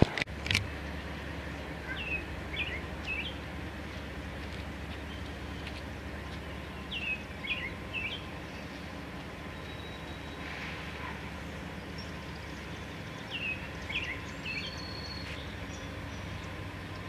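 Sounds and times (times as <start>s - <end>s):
low background rumble: 0.0s - 17.0s
songbird singing: 0.6s - 17.0s.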